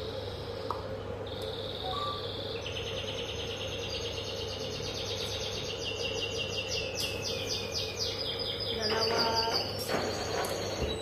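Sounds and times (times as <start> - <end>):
steady low hum: 0.0 - 11.0
songbird singing: 0.2 - 11.0.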